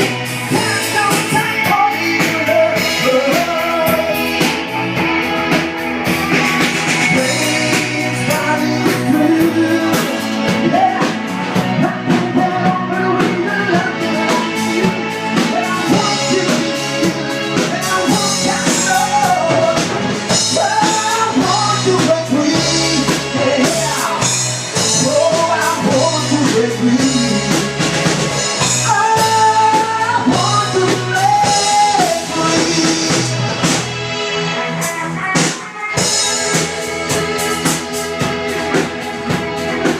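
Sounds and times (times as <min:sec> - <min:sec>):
drum kit: 0:00.0 - 0:39.9
guitar: 0:00.0 - 0:39.9
person singing: 0:00.0 - 0:39.9.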